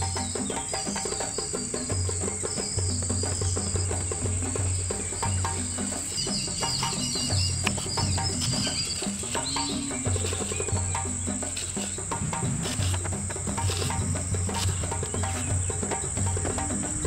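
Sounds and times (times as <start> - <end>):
bird chirps: 0.0 - 17.0
high insect trill: 0.0 - 17.0
music with steady beat and bass: 0.0 - 17.0.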